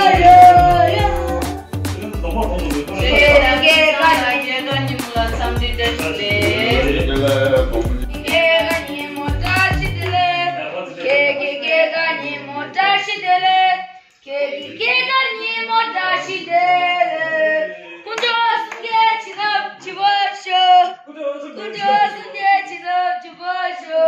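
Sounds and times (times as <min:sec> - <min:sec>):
unaccompanied voices singing: 0:00.0 - 0:21.0, 0:21.6 - 0:24.0.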